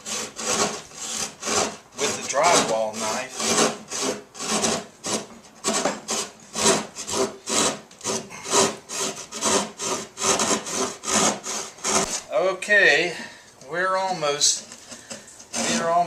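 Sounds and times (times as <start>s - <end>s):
hand saw cutting drywall: 0.0s - 12.3s, 14.0s - 16.0s.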